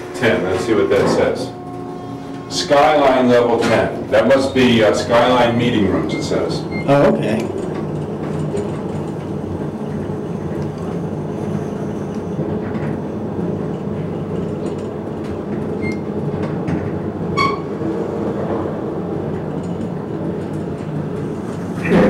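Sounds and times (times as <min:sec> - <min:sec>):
elevator hum and rumble: 0:00.0 - 0:22.0.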